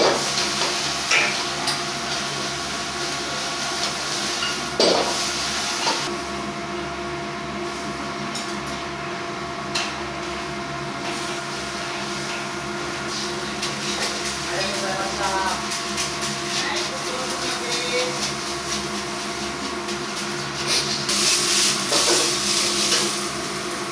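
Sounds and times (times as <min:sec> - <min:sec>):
steady equipment hum: 0:00.0 - 0:23.9.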